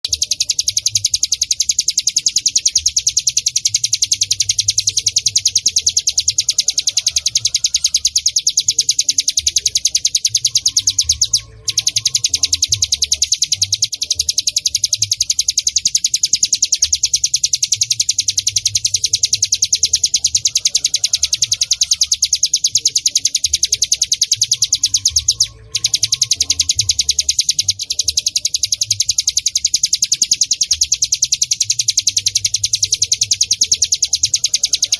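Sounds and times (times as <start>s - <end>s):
bird singing high chirps: 0.0s - 34.9s.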